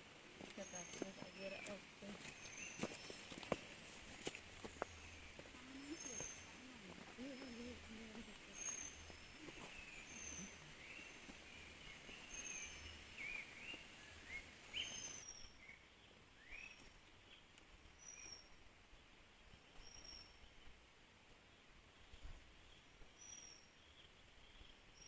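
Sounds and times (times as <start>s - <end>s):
faint birdsong: 0.0s - 25.0s.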